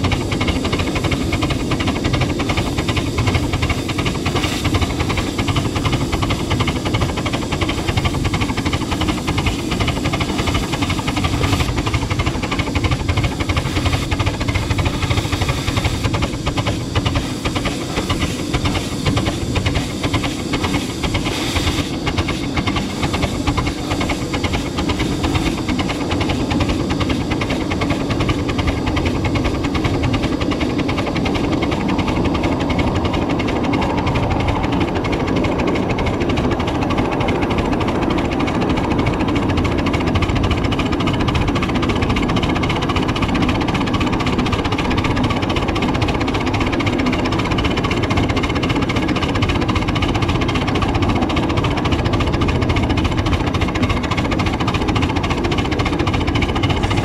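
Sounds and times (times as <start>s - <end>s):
miniature train rattling on track: 0.0s - 57.0s
steam hissing: 0.0s - 57.0s.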